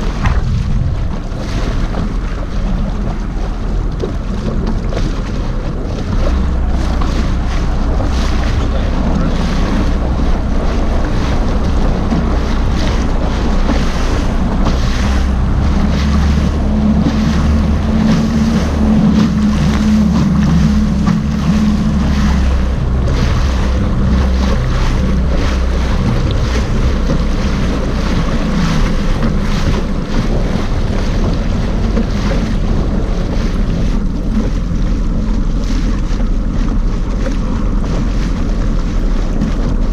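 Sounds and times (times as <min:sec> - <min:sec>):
water splashing against hull: 0:00.0 - 0:39.9
watercraft engine humming: 0:00.0 - 0:39.9
wind buffeting microphone: 0:00.0 - 0:39.9.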